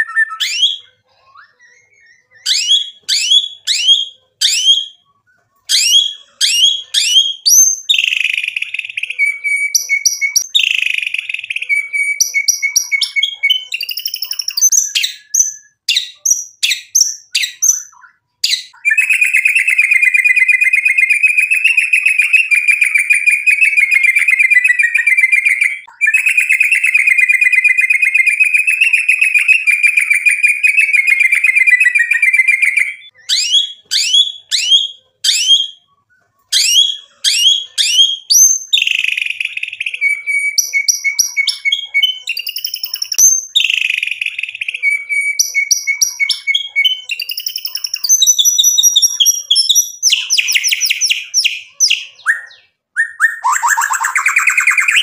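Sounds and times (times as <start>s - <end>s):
songbird singing trills: 0.0s - 35.9s, 36.5s - 55.0s.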